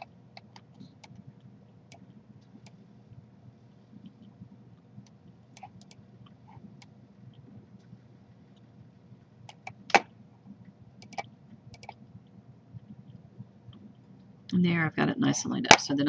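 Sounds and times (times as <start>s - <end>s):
computer mouse and keys clicking: 0.0s - 8.8s, 9.4s - 14.3s
low steady hum: 0.0s - 16.0s.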